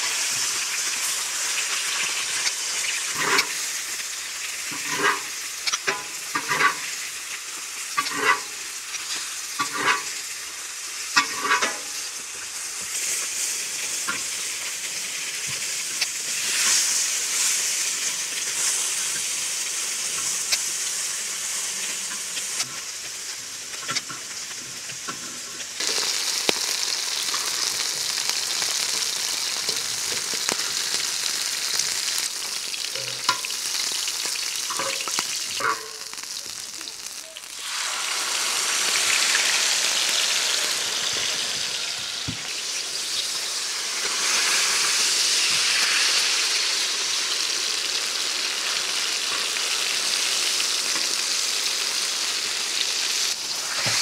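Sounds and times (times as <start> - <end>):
meat sizzling on a griddle: 0.0 - 54.0.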